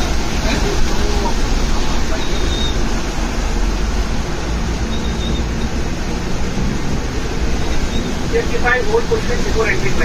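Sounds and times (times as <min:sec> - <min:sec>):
low engine rumble: 0:00.0 - 0:10.0
water rushing and splashing: 0:00.0 - 0:10.0.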